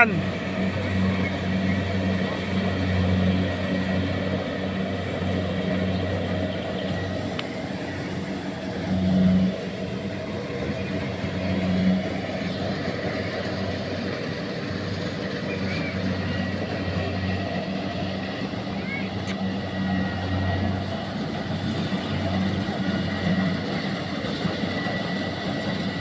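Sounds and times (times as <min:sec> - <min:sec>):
combine harvester engine running: 0:00.0 - 0:26.0.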